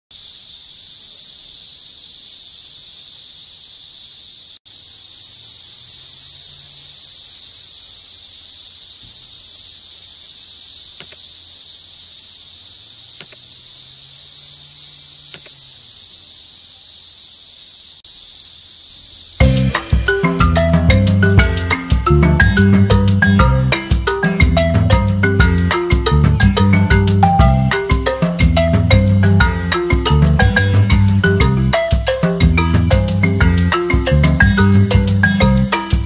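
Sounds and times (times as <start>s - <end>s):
cicadas singing: 0.0s - 36.0s.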